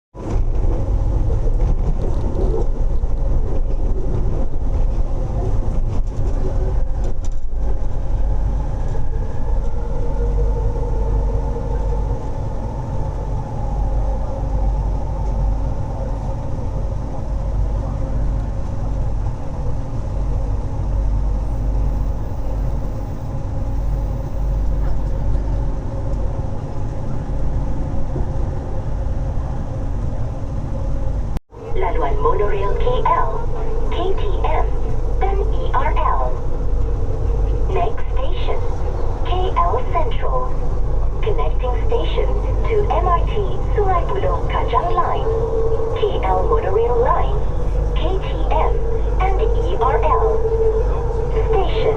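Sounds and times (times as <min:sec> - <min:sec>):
train wheels rumbling on track: 0:00.2 - 0:51.9.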